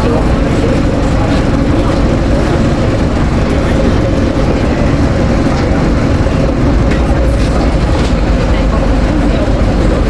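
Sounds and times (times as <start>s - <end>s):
bus engine and road rumble: 0.0s - 10.0s
steady whine: 0.0s - 10.0s.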